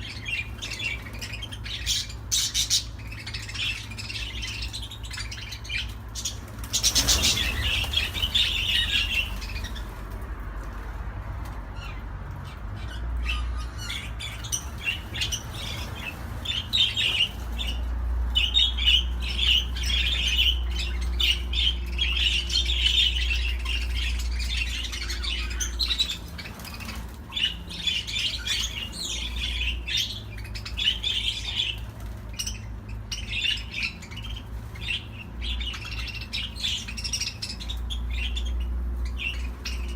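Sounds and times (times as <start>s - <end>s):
budgerigars chattering: 0.0s - 10.0s, 11.8s - 39.9s.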